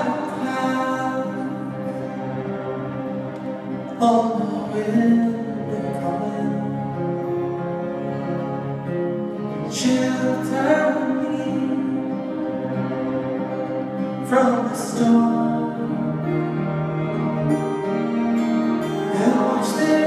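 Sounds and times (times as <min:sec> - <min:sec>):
accordion: 0:00.0 - 0:20.0
acoustic guitars strummed: 0:00.0 - 0:20.0
cello: 0:00.0 - 0:20.0
electric guitar chords: 0:00.0 - 0:20.0.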